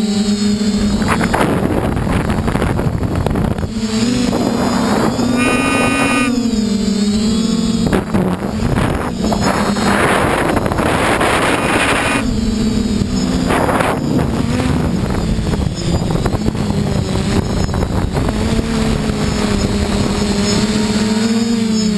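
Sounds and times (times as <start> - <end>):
quadcopter motors whining: 0.0 - 21.9
loud rushing noise bursts: 0.6 - 20.0.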